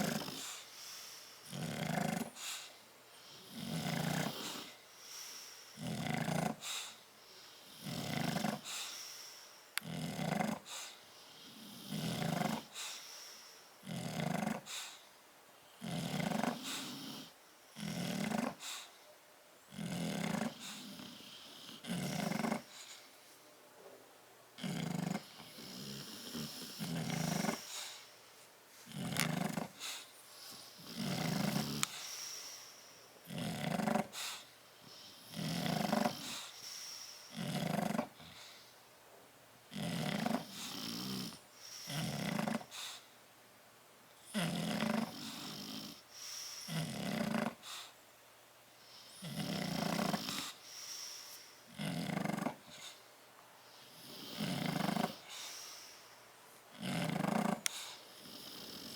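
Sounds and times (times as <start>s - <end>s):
dog snoring: 0.0s - 0.6s, 1.4s - 9.0s, 9.8s - 13.0s, 13.8s - 15.0s, 15.8s - 18.9s, 19.7s - 23.0s, 24.6s - 28.1s, 28.9s - 38.6s, 39.7s - 43.0s, 44.2s - 47.9s, 48.8s - 53.0s, 53.7s - 56.0s, 56.7s - 58.9s.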